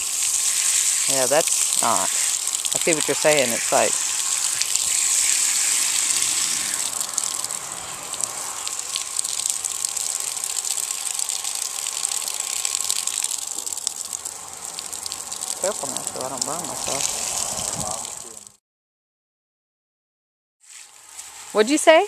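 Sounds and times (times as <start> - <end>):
shower head spraying water: 0.0 - 18.5.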